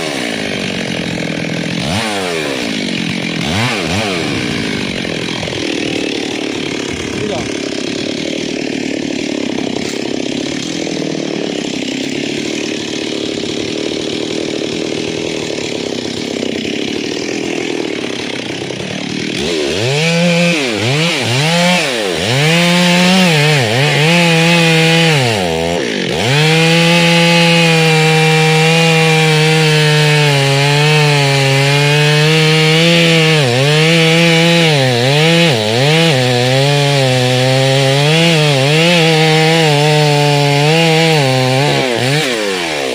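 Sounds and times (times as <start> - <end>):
chainsaw running: 0.0 - 42.9.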